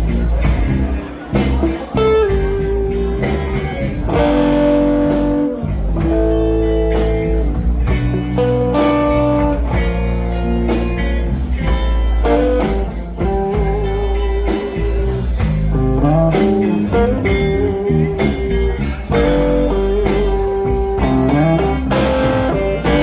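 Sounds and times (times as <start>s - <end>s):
bass: 0.0s - 23.0s
drums: 0.0s - 23.0s
electric guitar bent notes: 0.0s - 23.0s.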